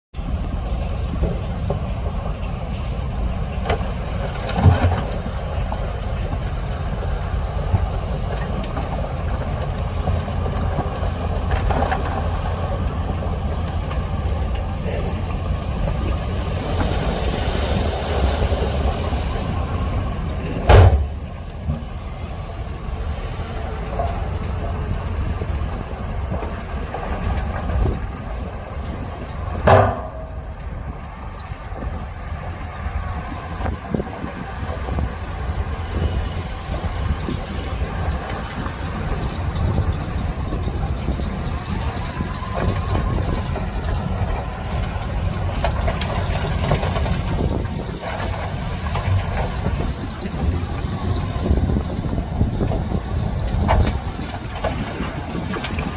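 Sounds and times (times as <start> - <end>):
heavy diesel machinery rumbling: 0.1 - 55.9.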